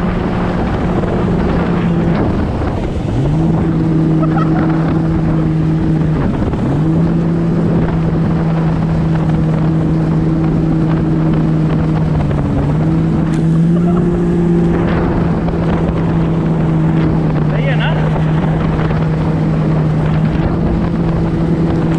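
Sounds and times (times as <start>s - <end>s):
jet ski engine running: 0.0s - 21.9s
rushing water: 0.0s - 21.9s
wind buffeting microphone: 0.0s - 21.9s.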